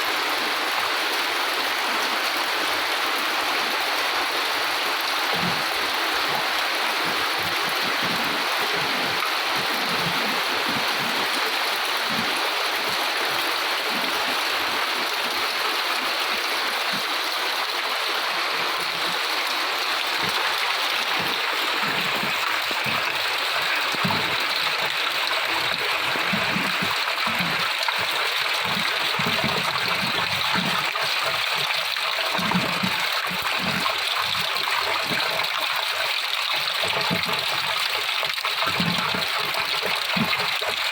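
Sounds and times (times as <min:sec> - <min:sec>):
steady rain hiss: 0:00.0 - 0:35.6
raindrop splashes: 0:04.0 - 0:40.9.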